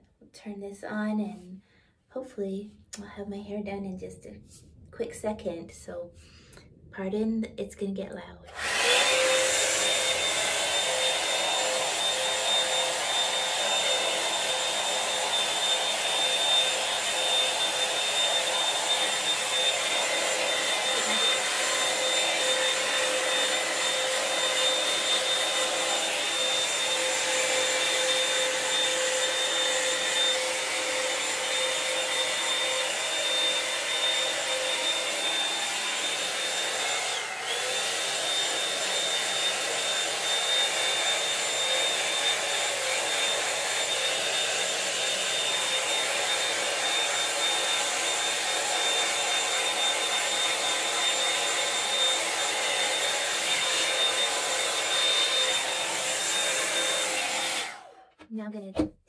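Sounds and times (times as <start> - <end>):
hair dryer blowing: 8.5 - 59.0.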